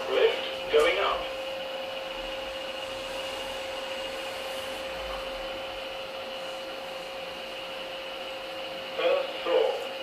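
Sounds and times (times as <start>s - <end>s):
elevator cab hum: 0.0s - 10.0s.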